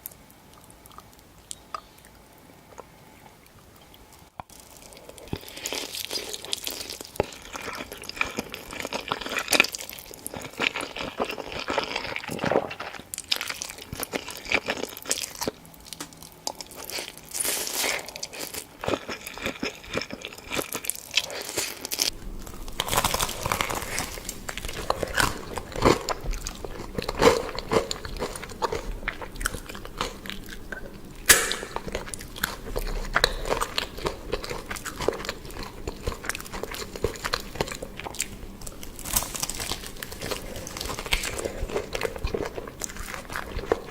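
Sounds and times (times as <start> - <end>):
crunchy food chewing: 0.0 - 43.9.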